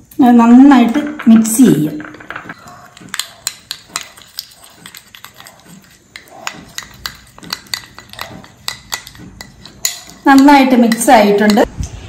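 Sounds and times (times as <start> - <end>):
spoon scraping glass bowl: 1.4 - 11.7.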